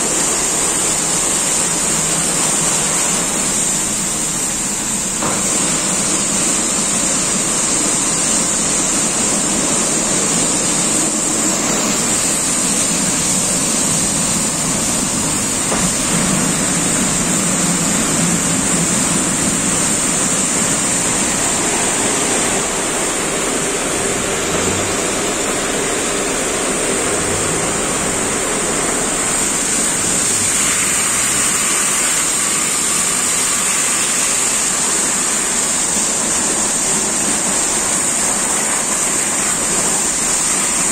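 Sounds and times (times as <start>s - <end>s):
water jets spraying: 0.0s - 40.9s.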